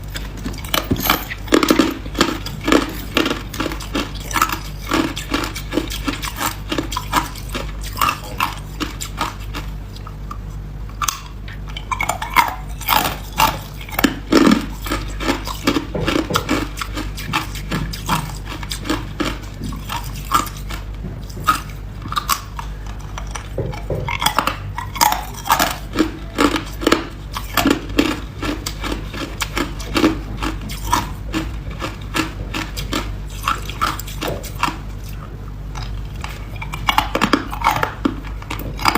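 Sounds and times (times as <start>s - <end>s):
ice crunching being chewed: 0.0s - 38.9s.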